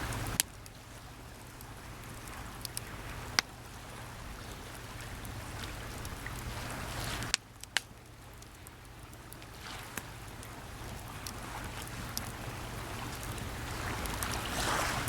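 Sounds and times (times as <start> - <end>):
campfire crackling pops: 0.0 - 0.8, 1.4 - 3.8, 4.5 - 14.5
sea waves washing on shore: 0.0 - 15.0.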